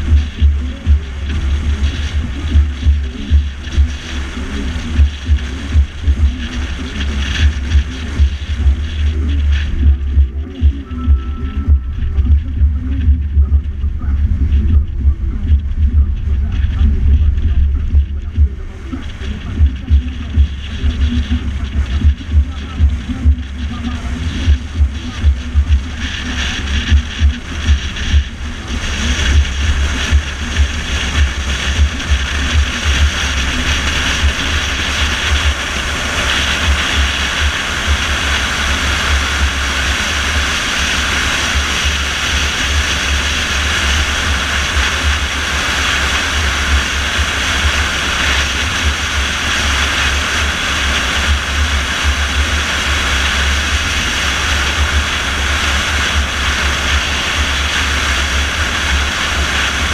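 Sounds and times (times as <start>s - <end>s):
car interior road noise: 0.0s - 59.9s.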